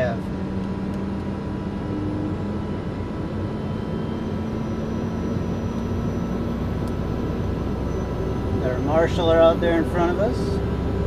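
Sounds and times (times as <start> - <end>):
turboprop engine starting: 0.0 - 11.0.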